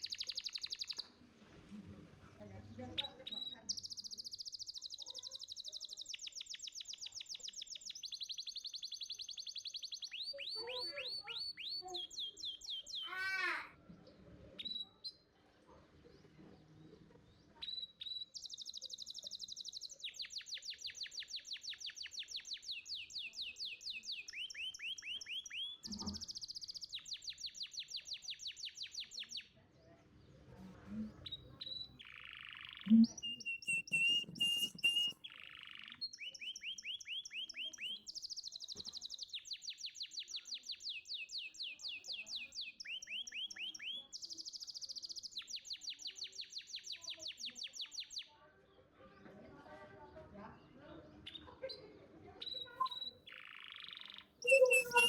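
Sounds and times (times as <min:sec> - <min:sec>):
canary singing trills: 0:00.0 - 0:01.0, 0:02.8 - 0:13.6, 0:14.6 - 0:15.3, 0:17.6 - 0:29.5, 0:30.8 - 0:48.3, 0:52.4 - 0:55.0.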